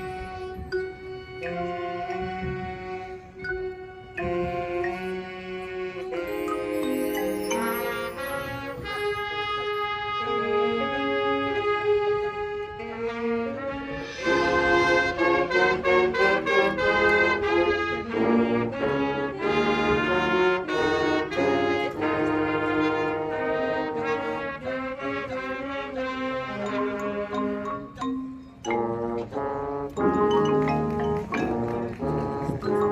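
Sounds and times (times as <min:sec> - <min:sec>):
marching band brass playing: 0:00.0 - 0:32.9.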